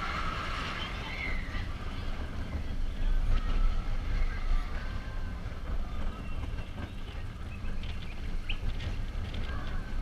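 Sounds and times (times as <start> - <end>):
roller coaster wheels rumbling: 0.0 - 10.0.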